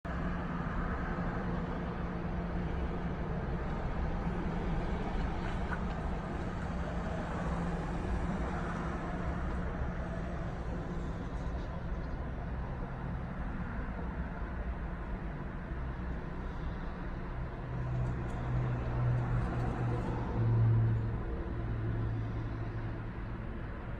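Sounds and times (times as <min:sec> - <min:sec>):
vehicle interior rumble and hum: 0:00.1 - 0:23.9.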